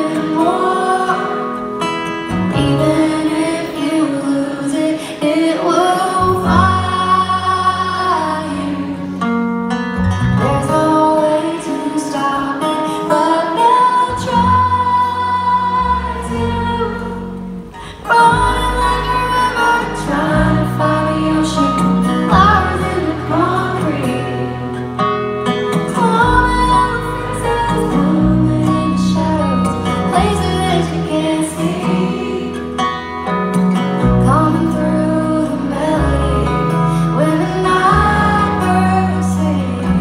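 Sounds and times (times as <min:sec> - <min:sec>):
woman singing: 0:00.0 - 0:09.3, 0:10.4 - 0:25.0, 0:25.7 - 0:33.0, 0:34.0 - 0:40.0
acoustic guitar: 0:00.0 - 0:40.0.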